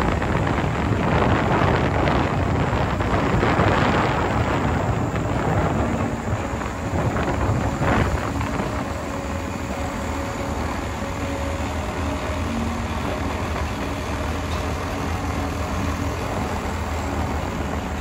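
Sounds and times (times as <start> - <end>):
vehicle engine hum: 0.0 - 18.0
wind buffeting microphone: 0.0 - 18.0.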